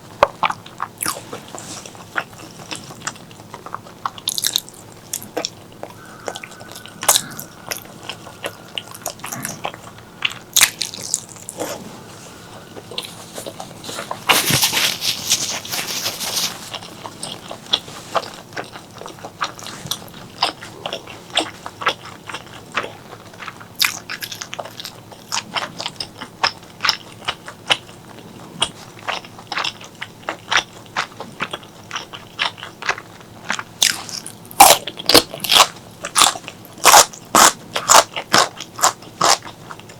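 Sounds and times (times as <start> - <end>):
close chewing and mouth smacks: 0.0 - 39.9.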